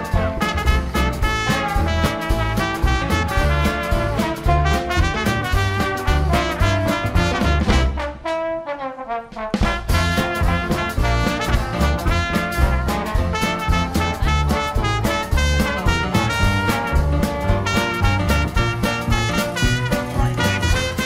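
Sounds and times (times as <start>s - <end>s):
swing music with brass: 0.0s - 21.0s.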